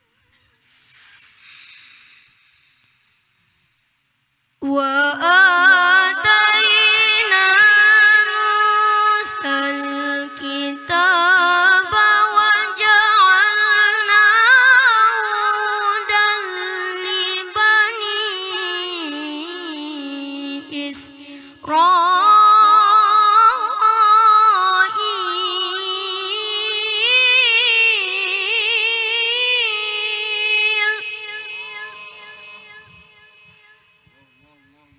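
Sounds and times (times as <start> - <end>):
boy reciting melodically through microphone: 4.6 - 34.9.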